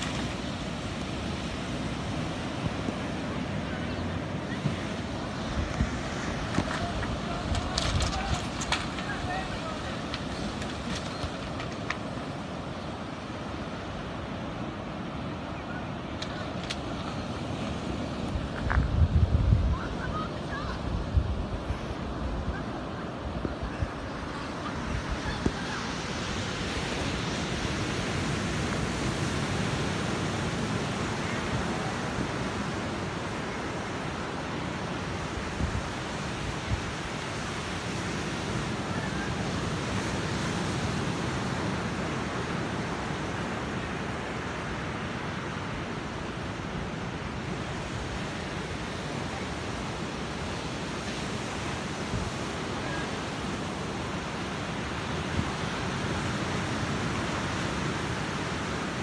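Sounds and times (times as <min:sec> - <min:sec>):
ocean surf on a beach: 0:00.0 - 0:59.0.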